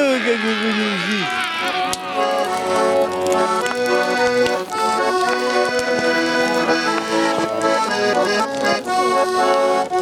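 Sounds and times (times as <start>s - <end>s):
accordion playing held chords: 0.5s - 10.0s.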